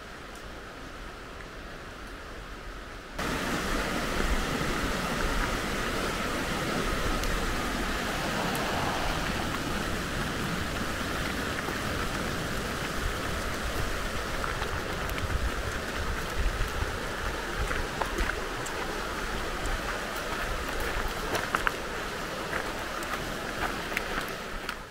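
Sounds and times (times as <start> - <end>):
rushing water: 0.0 - 24.9.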